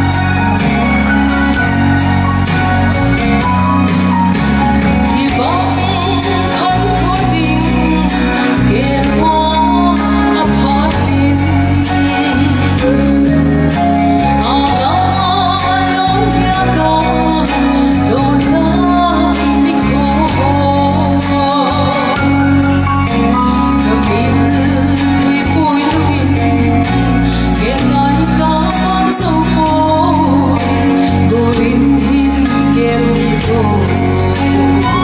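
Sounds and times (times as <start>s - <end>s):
instrumental backing with beat: 0.0s - 35.0s
woman singing into microphone: 4.8s - 35.0s.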